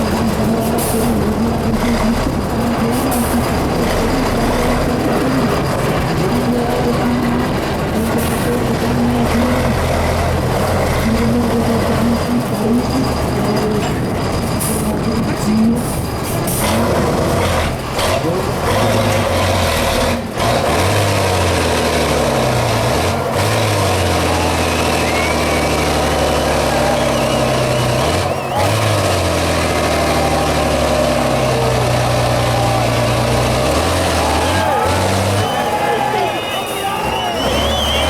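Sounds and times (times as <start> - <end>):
truck diesel engine revving: 0.0 - 38.0.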